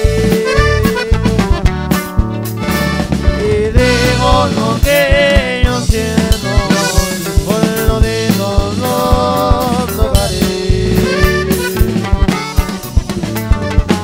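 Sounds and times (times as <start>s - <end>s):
steady drum beat: 0.0s - 14.0s.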